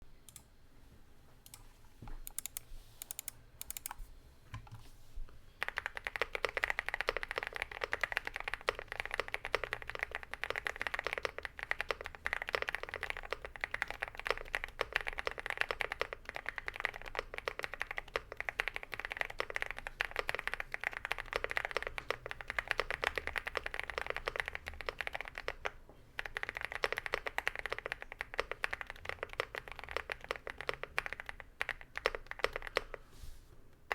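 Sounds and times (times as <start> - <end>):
mechanical keyboard typing: 2.3 - 4.0, 5.6 - 33.0.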